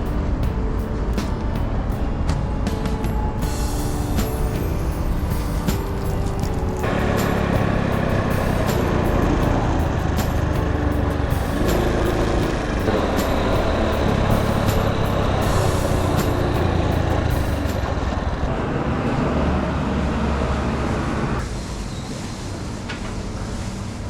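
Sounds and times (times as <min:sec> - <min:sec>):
motor vehicles road noise: 0:00.0 - 0:23.6.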